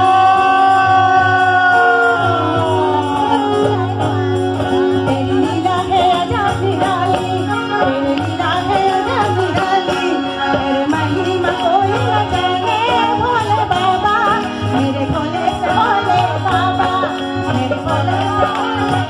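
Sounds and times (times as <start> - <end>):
tabla: 0.0 - 19.0
woman singing into a microphone: 0.0 - 19.0.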